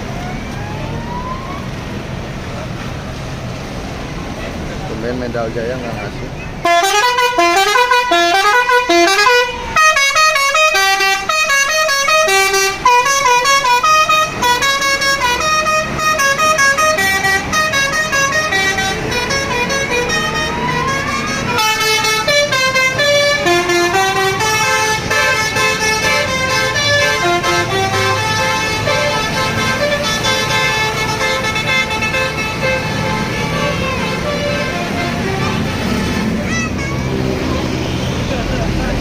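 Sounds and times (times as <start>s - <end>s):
low engine rumble: 0.0s - 39.0s
bus horn melody: 6.6s - 38.5s.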